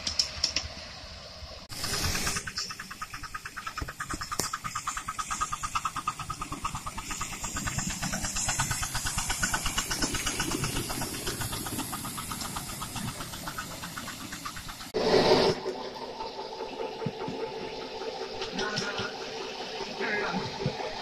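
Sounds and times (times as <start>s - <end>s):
steam hissing: 0.0s - 21.0s
steam locomotive chuffing: 0.0s - 21.0s.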